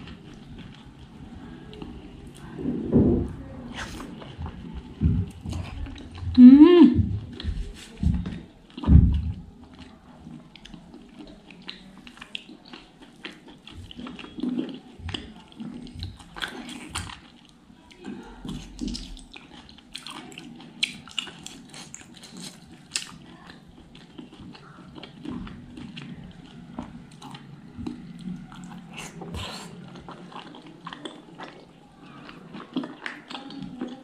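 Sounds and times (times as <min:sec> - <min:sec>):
chewing with wet mouth clicks: 0:00.0 - 0:02.5, 0:03.8 - 0:06.4, 0:08.2 - 0:34.0.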